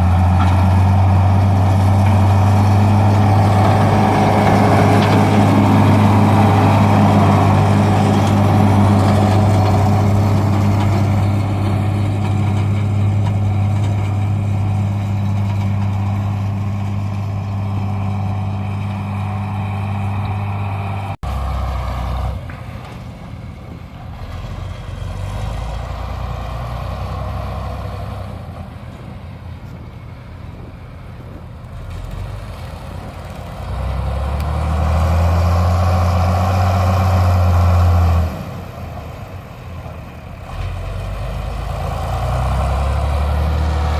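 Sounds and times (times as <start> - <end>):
deep engine rumble: 0.0 - 43.9
tractor engine humming: 0.0 - 43.9.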